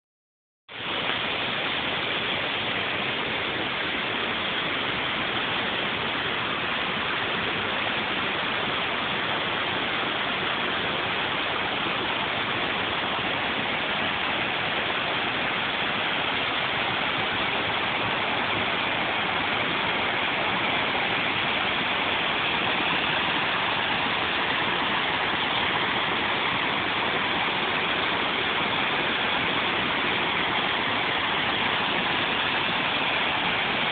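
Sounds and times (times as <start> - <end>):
stream rushing over stones: 0.7 - 33.9.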